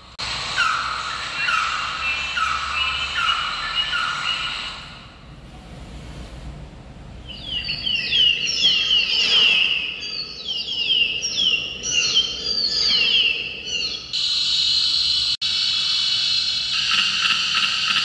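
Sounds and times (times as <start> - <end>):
recorded descending bird chirps: 0.3 - 5.2, 7.2 - 18.0.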